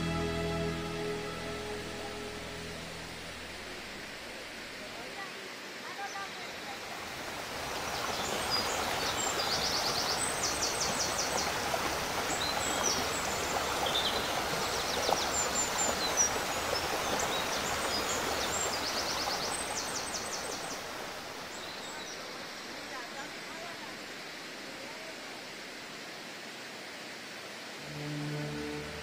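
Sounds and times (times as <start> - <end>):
stream rushing over rocks: 1.6 - 29.0.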